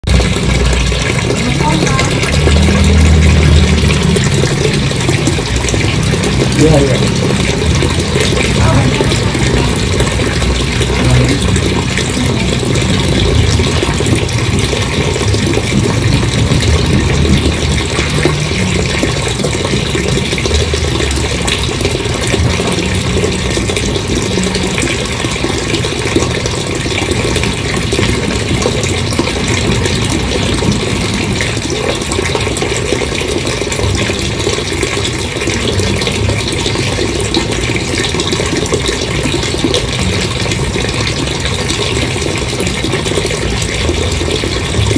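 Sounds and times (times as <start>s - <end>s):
water gushing: 0.0s - 44.9s
low rumble: 0.1s - 44.9s.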